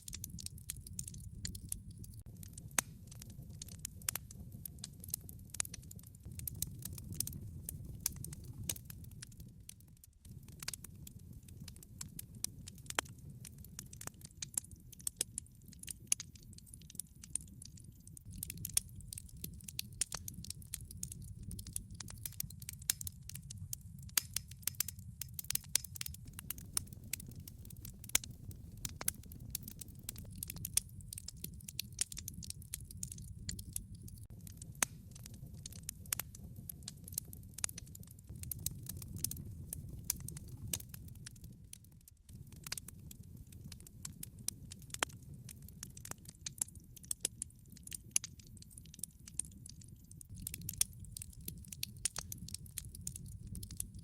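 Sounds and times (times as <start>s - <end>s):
low rumble of burning fire: 0.0s - 54.0s
wood fire crackling and popping: 0.0s - 54.0s.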